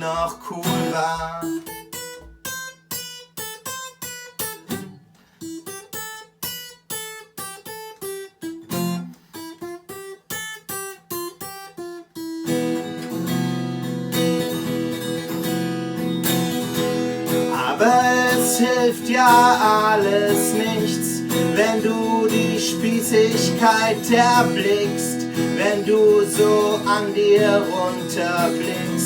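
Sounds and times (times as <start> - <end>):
acoustic guitar picked notes: 0.0 - 29.0
acoustic guitar strummed chords: 0.0 - 29.0.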